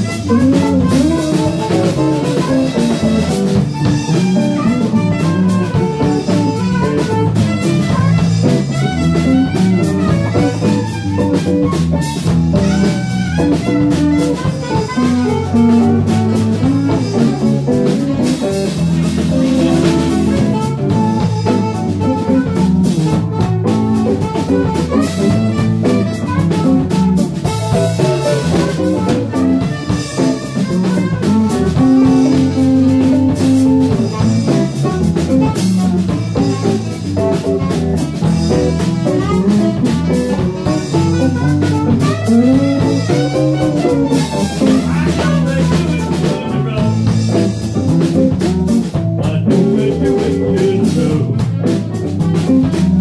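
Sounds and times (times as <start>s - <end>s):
drum kit: 0.0s - 53.0s
electric bass: 0.0s - 53.0s
guitar: 0.0s - 53.0s.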